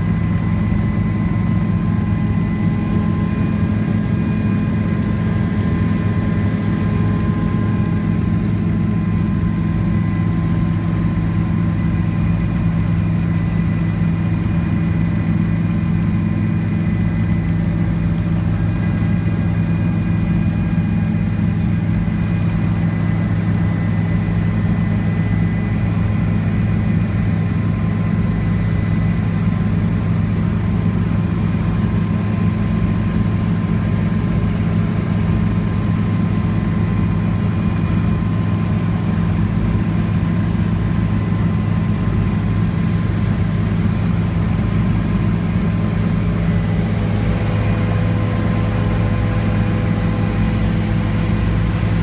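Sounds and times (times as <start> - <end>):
helicopter engine and rotor drone: 0.0 - 52.0.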